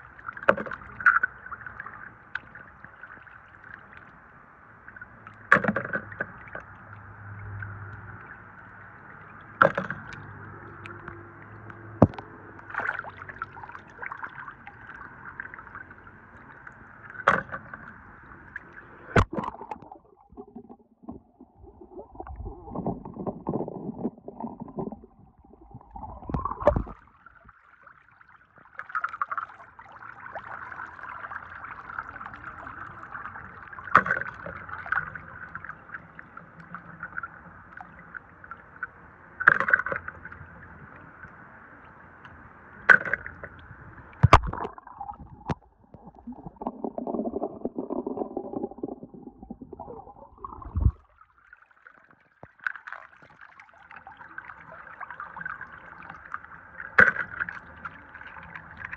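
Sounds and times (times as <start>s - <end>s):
water sloshing and trickling: 0.0s - 58.9s.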